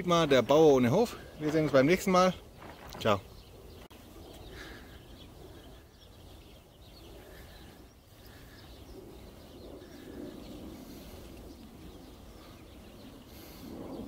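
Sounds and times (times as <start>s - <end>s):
bird calls and chirps: 0.0s - 14.0s.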